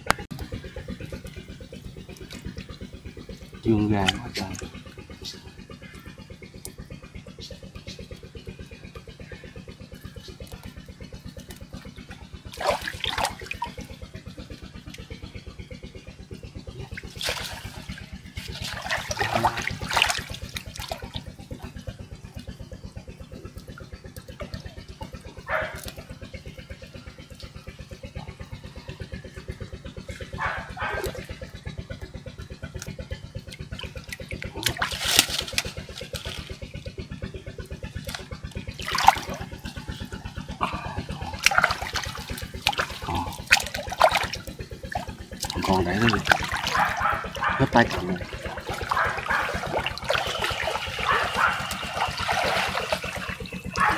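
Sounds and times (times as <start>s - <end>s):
pulsing low hum: 0.0s - 53.9s
water splashing and sloshing: 0.0s - 53.9s.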